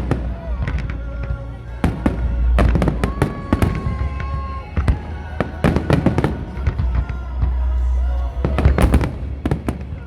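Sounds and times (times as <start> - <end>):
fireworks bangs and crackles: 0.0 - 7.7, 8.4 - 10.0
deep rumble: 0.0 - 10.0.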